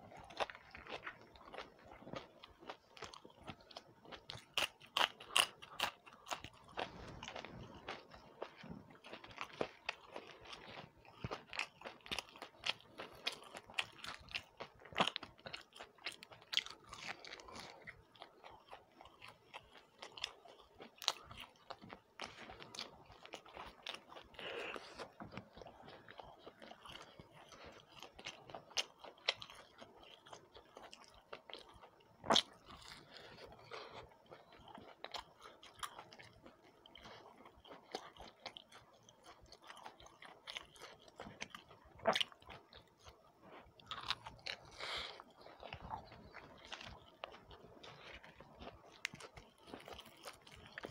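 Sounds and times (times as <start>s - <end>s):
chewing and crunching snacks: 0.0s - 50.9s.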